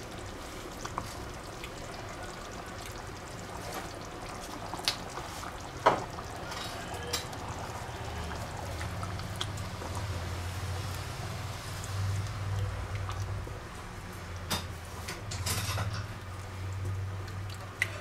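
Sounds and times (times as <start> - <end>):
sauce bubbling in a pan: 0.0 - 18.0.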